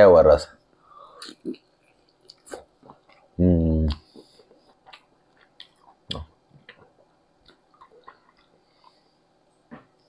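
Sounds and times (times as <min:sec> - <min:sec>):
person chewing food: 0:01.2 - 0:10.0.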